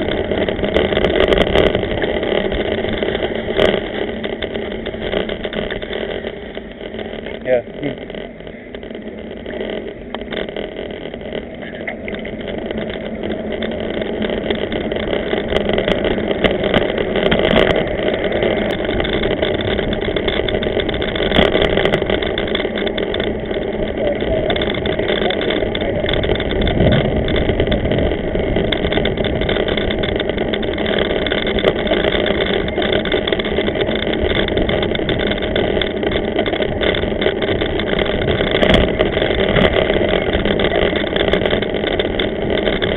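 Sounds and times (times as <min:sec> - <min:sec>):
bicycle tyre and road rumble: 0:00.0 - 0:42.9
wind rush on microphone: 0:00.0 - 0:42.9.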